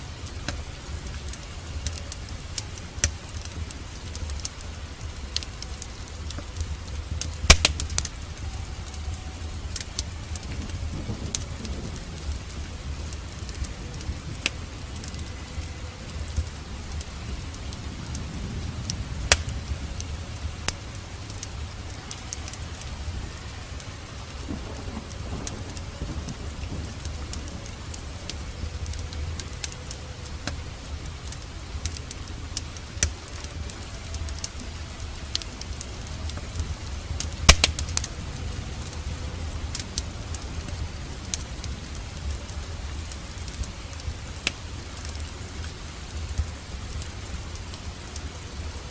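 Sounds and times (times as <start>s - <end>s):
low rumble of thunder: 0.0s - 48.9s
steady rain: 0.0s - 48.9s
wood fire crackling and popping: 0.0s - 48.9s.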